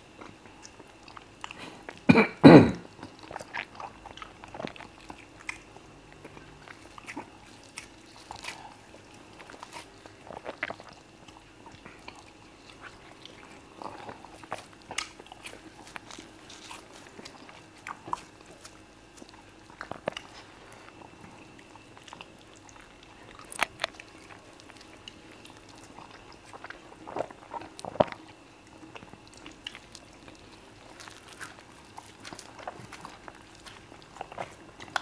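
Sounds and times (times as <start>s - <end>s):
faint steady hum: 0.0s - 35.0s
wet chewing: 0.1s - 2.1s, 2.9s - 35.0s.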